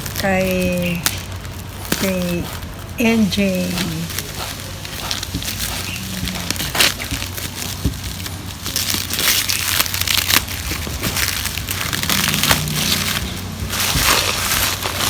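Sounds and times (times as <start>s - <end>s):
packing material crinkling: 0.0s - 15.0s.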